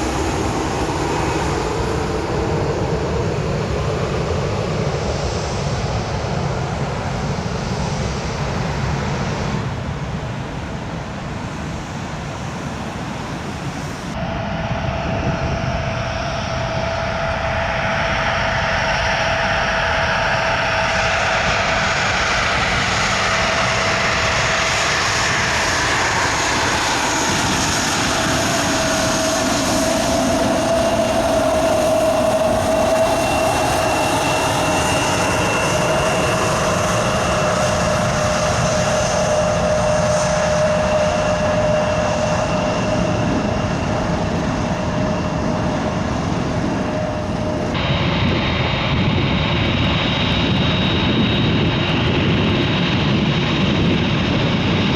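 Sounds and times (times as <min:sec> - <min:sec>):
jet engines roaring with whine: 0:00.0 - 0:54.9.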